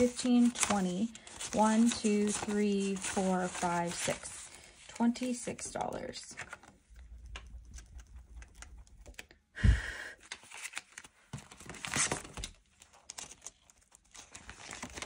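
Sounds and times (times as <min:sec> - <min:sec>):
paper banknotes rustling: 0:00.0 - 0:09.2, 0:10.2 - 0:15.0.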